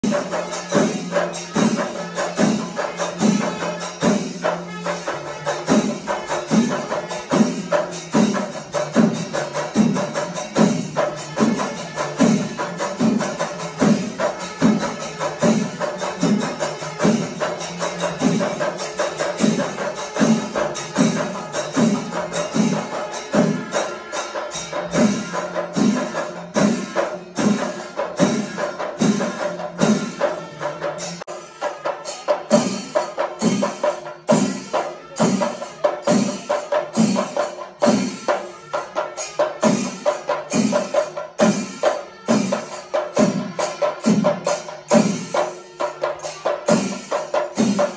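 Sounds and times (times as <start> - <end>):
drums and cymbals ensemble: 0.0 - 47.9.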